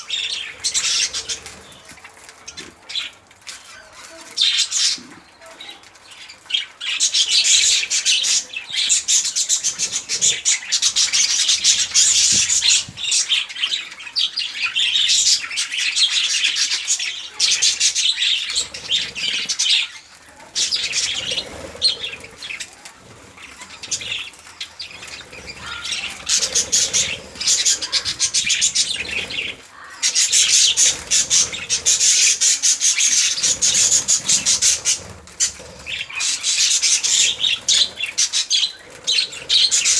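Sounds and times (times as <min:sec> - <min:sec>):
budgerigars chattering: 0:00.0 - 0:01.9, 0:06.5 - 0:39.9.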